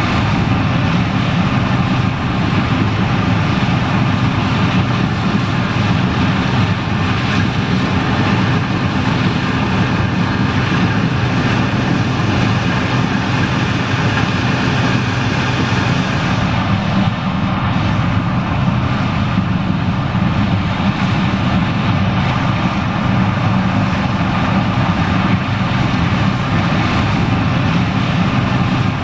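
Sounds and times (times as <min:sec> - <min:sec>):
combine engine drone: 0:00.0 - 0:29.0
machinery noise: 0:00.0 - 0:29.0.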